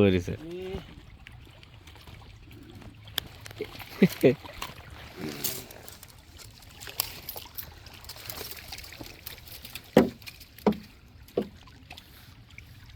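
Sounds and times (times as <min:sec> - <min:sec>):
short water splashes: 0:00.0 - 0:12.9
water lapping and trickling: 0:00.0 - 0:12.9.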